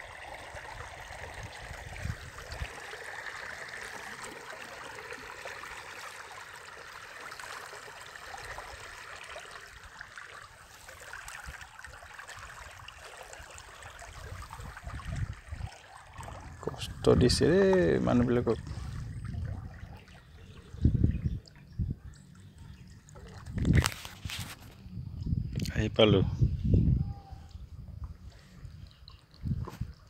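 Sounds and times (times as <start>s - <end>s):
river water lapping around raft: 0.0s - 24.6s.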